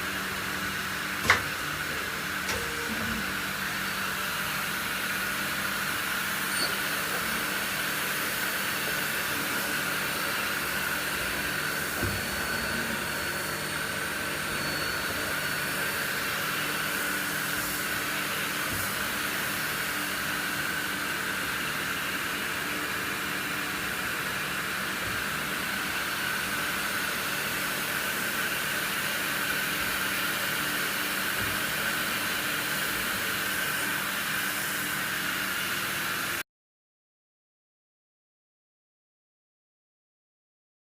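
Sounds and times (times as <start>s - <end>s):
lathe humming and hissing: 0.0s - 36.4s.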